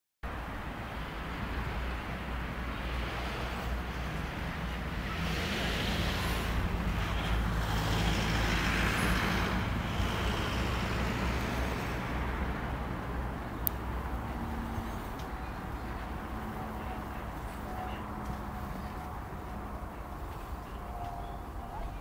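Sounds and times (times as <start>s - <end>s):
car passing: 0.9s - 22.0s.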